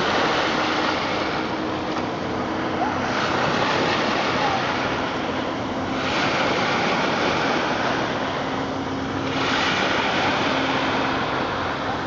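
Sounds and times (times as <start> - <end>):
surf rushing: 0.0 - 12.0
wind: 0.0 - 12.0.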